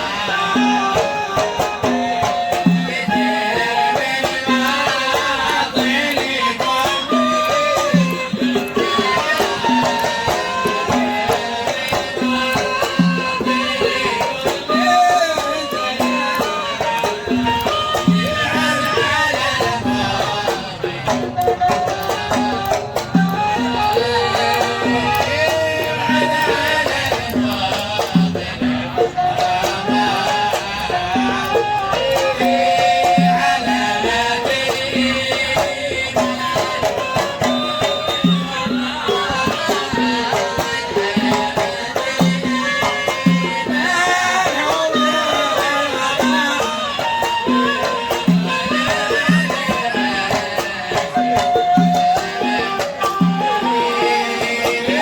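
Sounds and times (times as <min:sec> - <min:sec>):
string instrument melody: 0:00.0 - 0:55.0
steady drum beat: 0:07.0 - 0:55.0.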